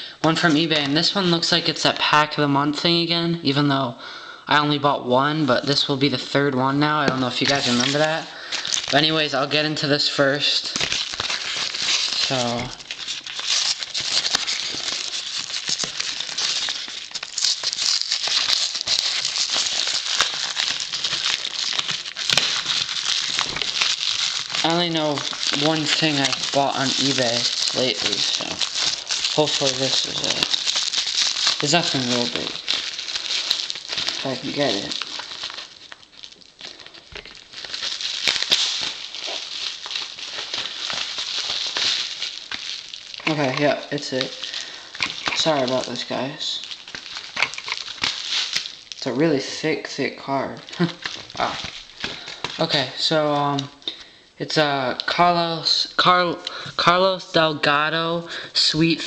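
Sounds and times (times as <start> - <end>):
packaging rustling: 0.0 - 1.9, 6.8 - 54.1
padded envelope crinkling: 0.2 - 1.9, 6.8 - 53.9.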